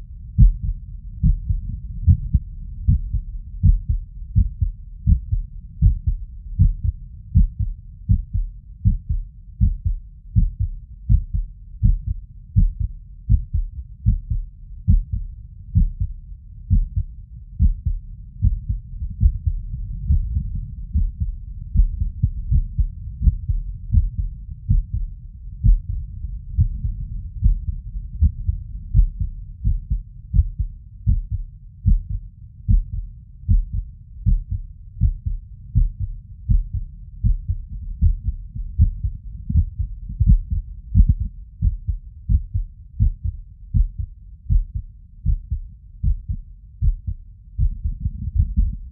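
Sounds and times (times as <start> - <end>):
heartbeat thumps through stethoscope: 0.3 - 48.9.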